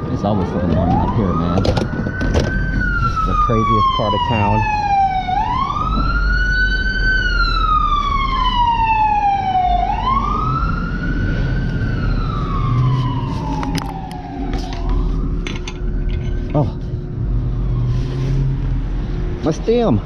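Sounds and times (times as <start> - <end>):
emergency siren wailing: 0.0 - 19.7.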